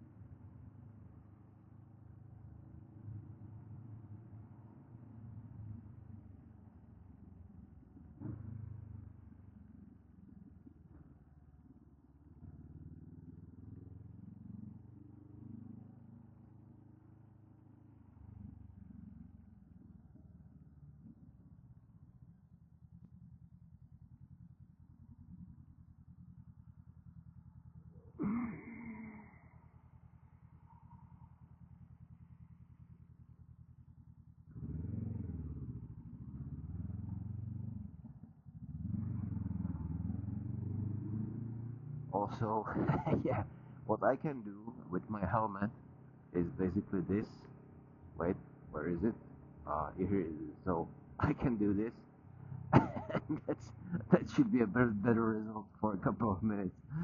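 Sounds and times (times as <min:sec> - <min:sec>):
muffled motorcycle engine: 0:00.0 - 0:57.0.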